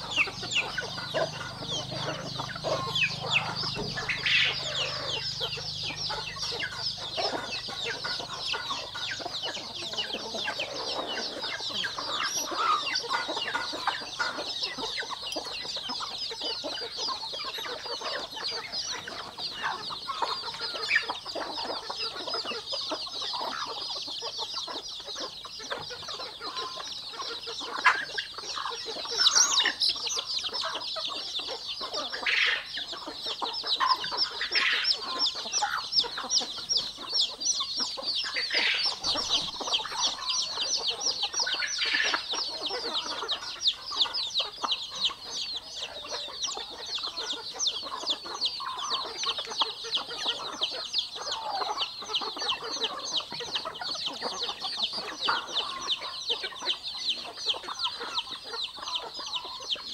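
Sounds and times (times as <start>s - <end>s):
chicks peeping: 0.0s - 59.9s
hens clucking: 0.0s - 59.9s.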